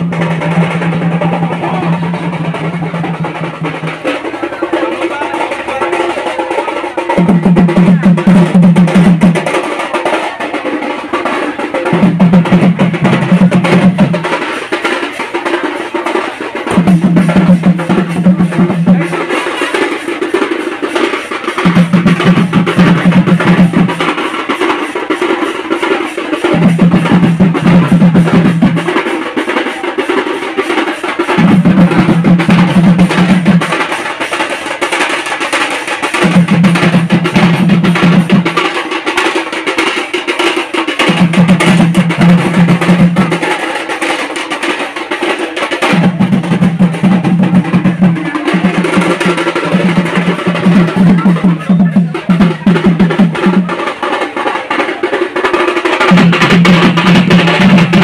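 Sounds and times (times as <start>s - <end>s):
fast steady drumming: 0.0s - 58.0s.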